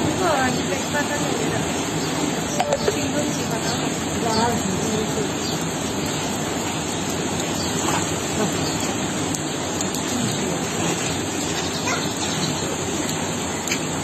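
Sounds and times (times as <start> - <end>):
floodwater rushing in river: 0.0 - 14.0.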